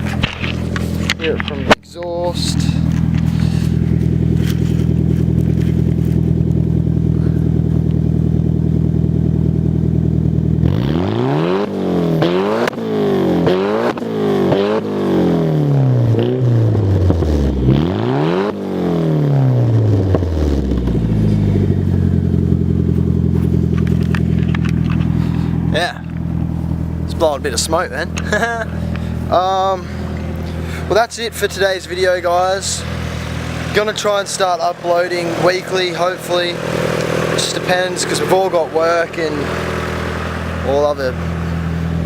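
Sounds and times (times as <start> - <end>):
car engine idling and revving: 0.0 - 42.0.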